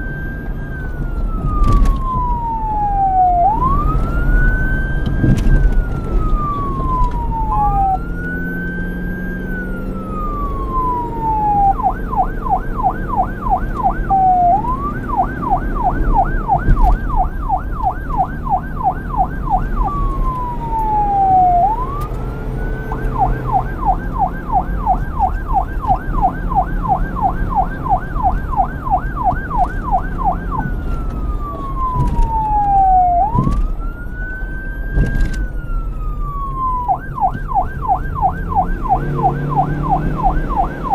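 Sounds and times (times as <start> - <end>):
police siren wailing and yelping: 0.0 - 40.9.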